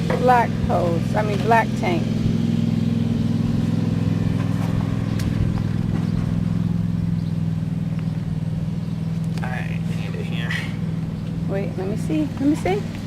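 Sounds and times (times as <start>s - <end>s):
motor running with low hum: 0.0s - 13.0s.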